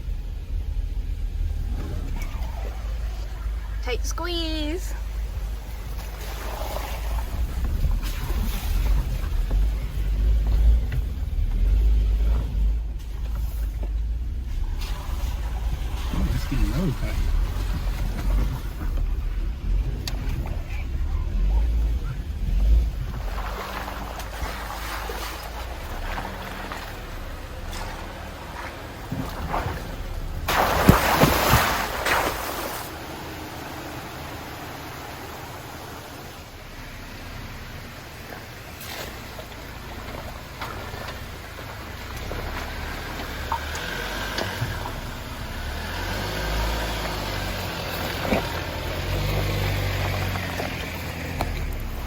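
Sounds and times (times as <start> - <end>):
vehicle engine rumble: 0.0 - 52.0
water splashing: 0.0 - 52.0.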